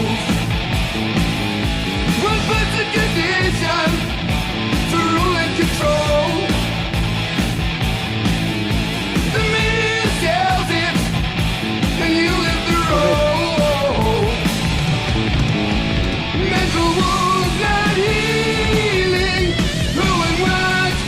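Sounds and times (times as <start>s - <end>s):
distorted guitars: 0.0s - 21.0s
drums: 0.0s - 21.0s
rock song with sung vocal: 0.0s - 21.0s.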